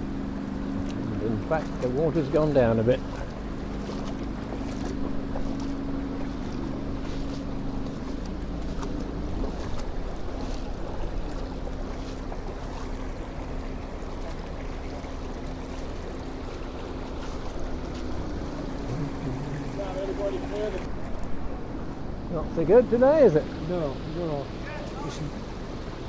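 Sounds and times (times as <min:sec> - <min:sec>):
floodwater rushing: 0:00.0 - 0:26.0
low hum: 0:00.0 - 0:26.0.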